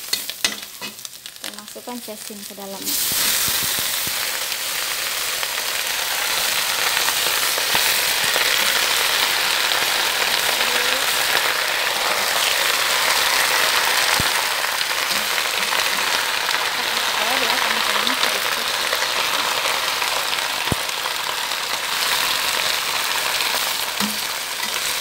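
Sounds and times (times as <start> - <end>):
greens sizzling in hot oil: 0.0 - 25.0.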